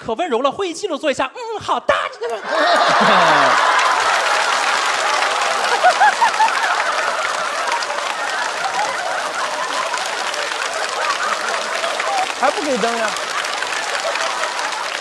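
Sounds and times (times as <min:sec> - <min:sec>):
audience laughing: 0:02.2 - 0:15.0
audience applauding: 0:02.4 - 0:15.0.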